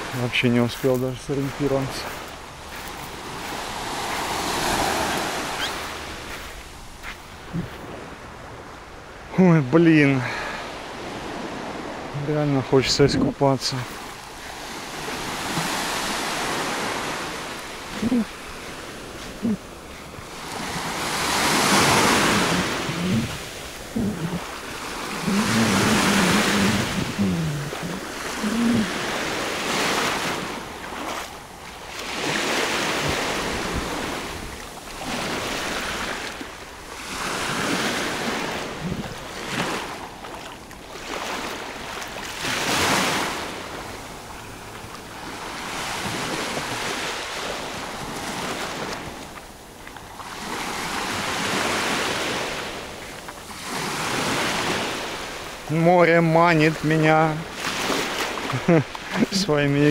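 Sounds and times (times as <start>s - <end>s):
waves washing onto sandy shore: 0.0s - 59.9s.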